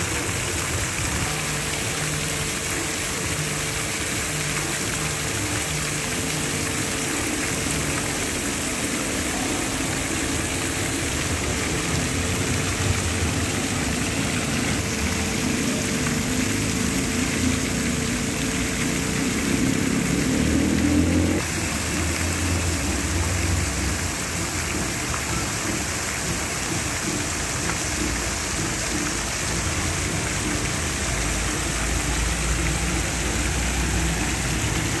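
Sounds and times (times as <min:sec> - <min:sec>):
fountain water splashing: 0:00.0 - 0:35.0
street traffic rumble: 0:00.0 - 0:35.0.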